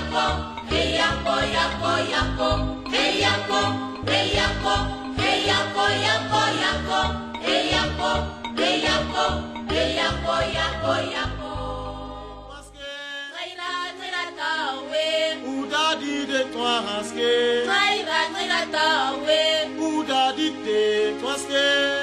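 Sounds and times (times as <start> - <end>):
choir chanting: 0.0 - 21.2.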